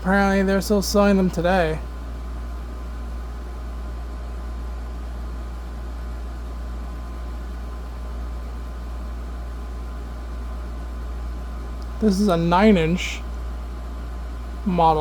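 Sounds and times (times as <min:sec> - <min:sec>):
refrigerator running: 0:00.0 - 0:15.0.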